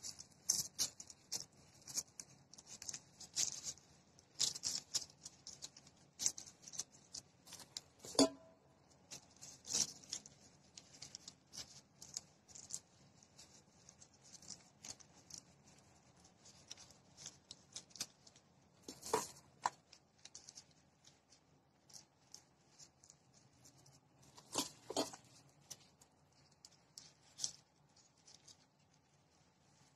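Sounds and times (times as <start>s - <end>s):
faint crackling and rustling: 0.0s - 29.9s.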